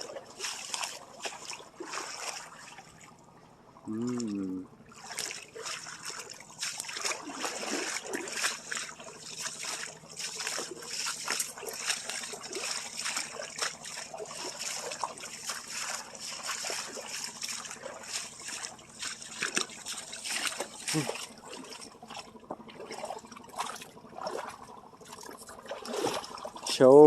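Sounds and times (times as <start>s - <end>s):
stream trickling and splashing: 0.0s - 27.0s.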